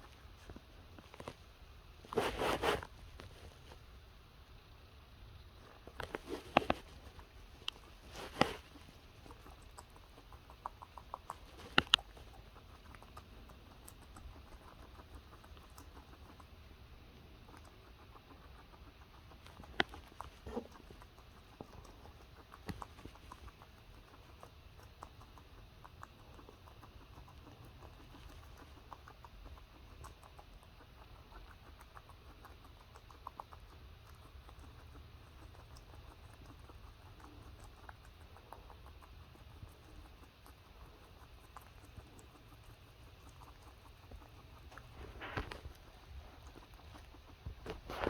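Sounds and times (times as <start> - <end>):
lettuce being chewed: 5.5 - 48.0.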